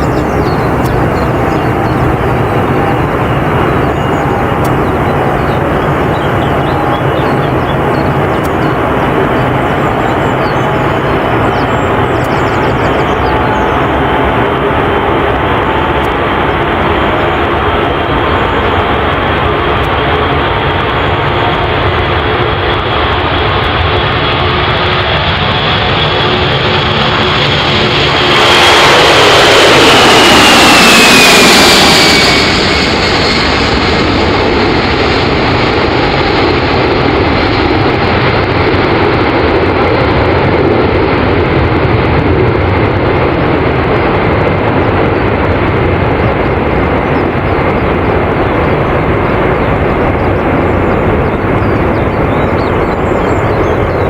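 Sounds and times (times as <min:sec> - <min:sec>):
high whine gliding down: 0:00.0 - 0:54.0
jet engines rushing: 0:00.0 - 0:54.0.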